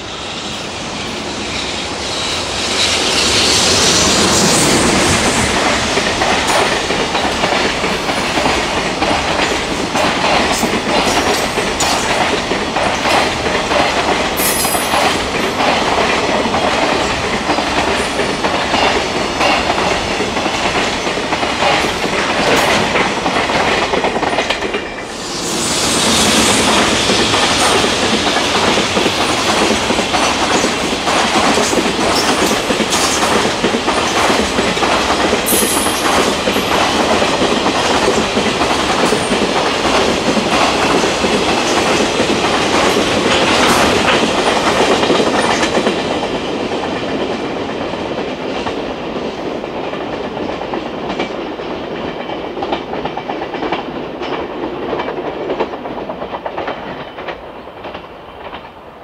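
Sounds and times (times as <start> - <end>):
train wheels clattering over rails: 0.0 - 58.8.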